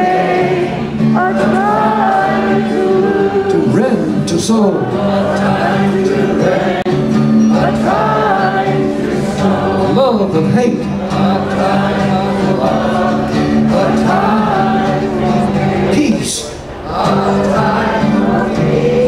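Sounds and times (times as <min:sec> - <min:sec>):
acoustic guitar: 0:00.0 - 0:19.0
crowd singing in chorus: 0:00.0 - 0:19.0.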